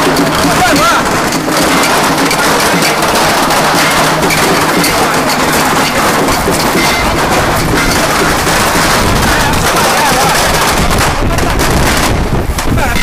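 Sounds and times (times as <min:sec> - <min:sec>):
firecrackers crackling: 0:00.0 - 0:13.0.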